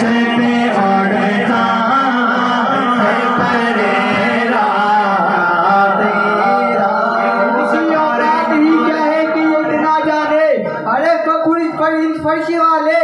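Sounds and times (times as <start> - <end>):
man singing through pa system: 0.0 - 13.0.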